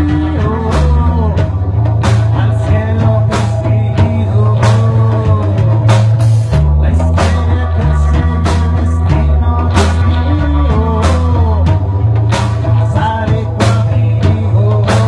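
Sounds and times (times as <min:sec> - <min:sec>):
drum hits: 0:00.0 - 0:15.0
loud bass line: 0:00.0 - 0:15.0
rock music: 0:00.0 - 0:15.0.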